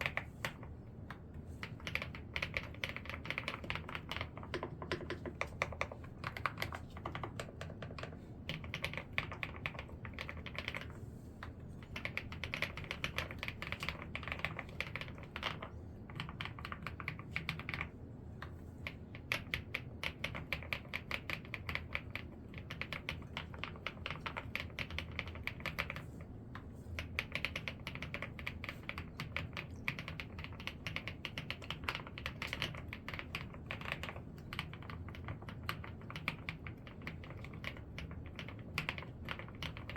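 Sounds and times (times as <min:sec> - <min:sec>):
mechanical keyboard typing: 0:00.0 - 0:00.7, 0:01.6 - 0:11.0, 0:11.8 - 0:17.9, 0:18.8 - 0:26.2, 0:27.0 - 0:39.9.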